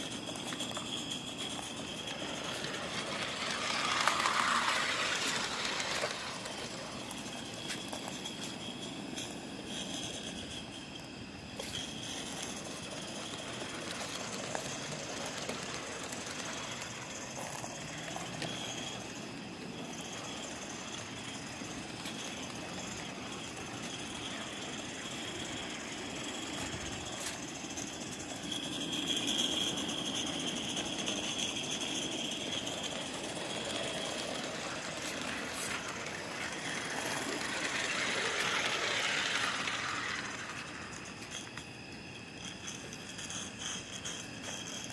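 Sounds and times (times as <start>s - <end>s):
model train rolling: 0.0s - 44.9s
steam hissing: 0.0s - 44.9s.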